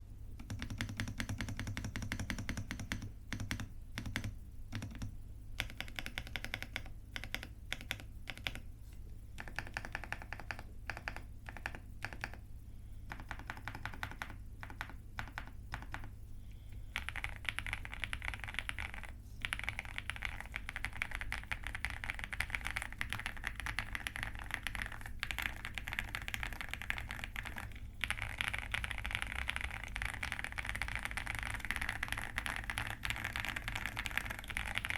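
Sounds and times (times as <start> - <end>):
low steady hum: 0.0 - 34.9
mechanical keyboard typing: 0.4 - 8.7, 9.4 - 12.4, 13.1 - 16.2, 16.9 - 34.9.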